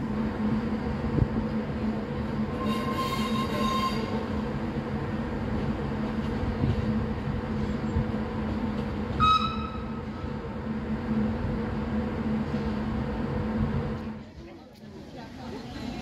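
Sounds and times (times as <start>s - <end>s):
electric railcar hum and rumble: 0.0s - 16.0s.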